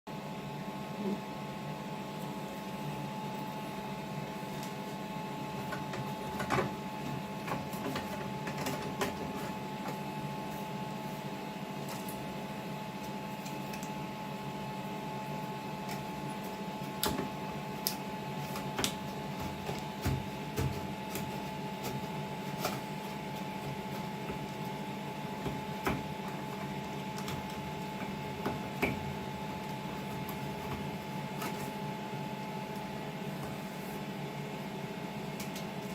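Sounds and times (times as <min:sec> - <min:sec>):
washing machine motor hum: 0:00.1 - 0:35.9.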